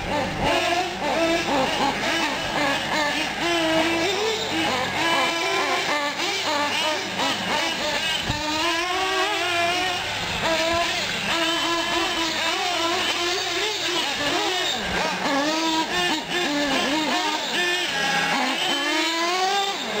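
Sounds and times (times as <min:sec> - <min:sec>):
model truck engines revving: 0:00.0 - 0:20.0.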